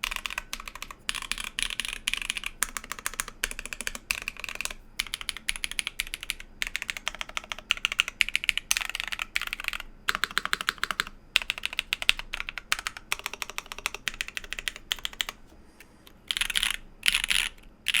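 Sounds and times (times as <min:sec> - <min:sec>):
mechanical keyboard typing: 0:00.0 - 0:15.4, 0:16.2 - 0:18.0.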